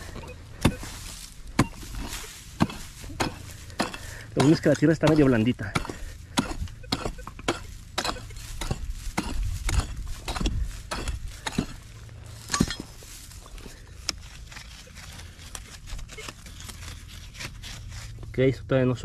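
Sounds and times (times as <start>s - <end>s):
digging tool scraping soil: 0.0s - 18.9s.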